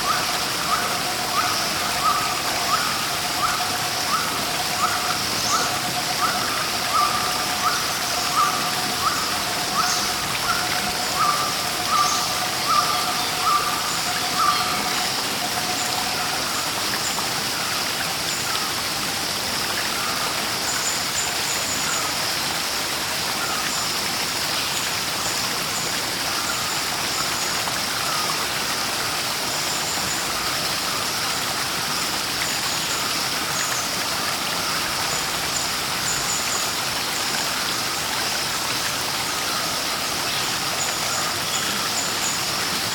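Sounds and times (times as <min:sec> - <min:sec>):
running water: 0:00.0 - 0:42.9.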